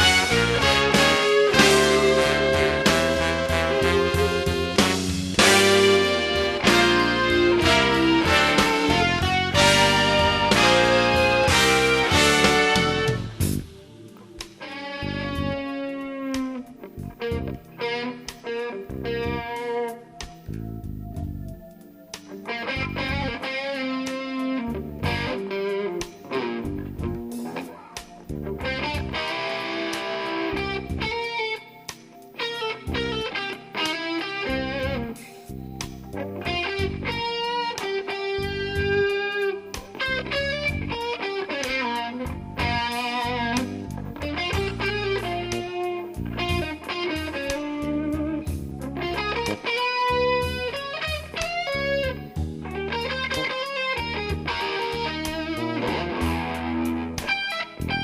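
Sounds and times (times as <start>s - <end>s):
blues-jazz band music: 0.0s - 58.0s
electric guitar playing: 0.0s - 58.0s.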